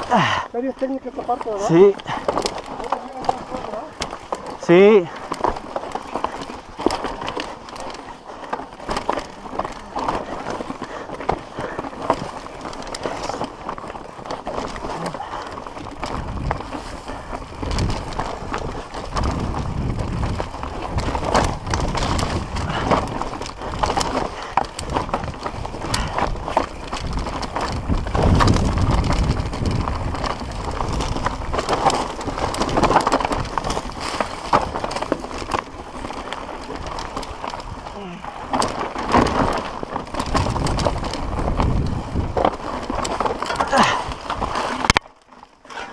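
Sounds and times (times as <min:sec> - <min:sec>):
tyres clattering over rocks: 0:00.0 - 0:45.9.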